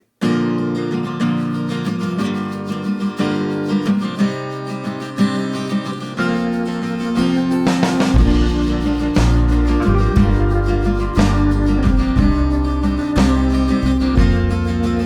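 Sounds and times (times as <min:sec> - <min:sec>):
acoustic guitar strumming: 0:00.2 - 0:15.0.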